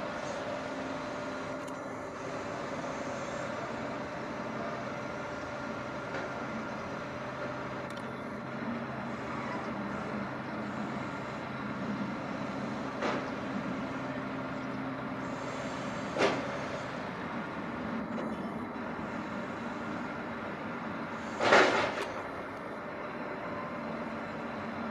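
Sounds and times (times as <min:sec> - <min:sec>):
crane engine and hydraulics running: 0:00.0 - 0:24.9.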